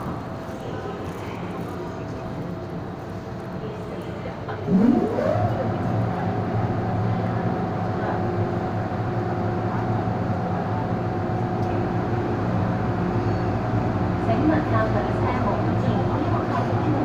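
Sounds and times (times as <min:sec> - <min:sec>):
train equipment humming and whining: 0:00.0 - 0:17.0.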